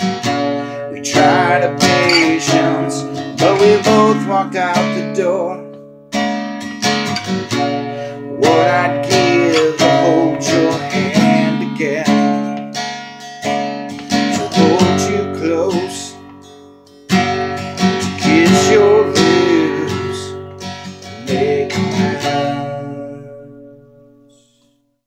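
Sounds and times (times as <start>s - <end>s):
acoustic guitar strumming chords: 0.0s - 24.6s.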